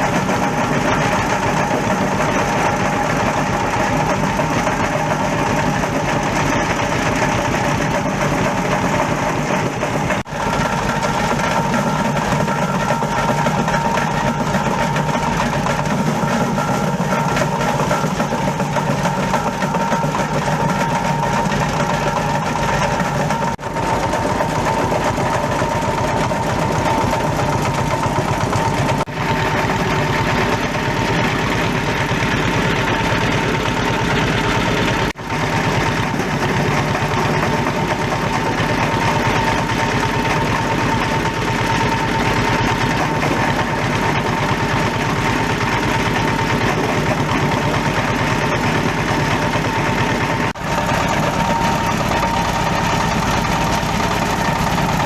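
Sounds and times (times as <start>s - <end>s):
shredding machine running: 0.0s - 55.0s.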